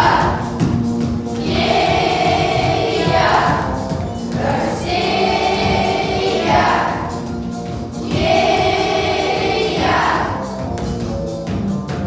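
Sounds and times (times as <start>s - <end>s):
children's choir singing: 0.0s - 10.6s
instrumental accompaniment: 0.0s - 12.0s.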